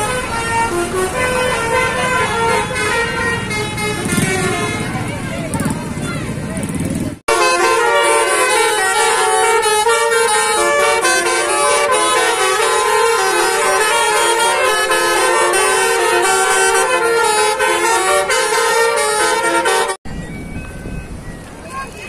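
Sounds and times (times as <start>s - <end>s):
bus horn trumpets playing tune: 0.0s - 5.3s, 7.3s - 20.0s.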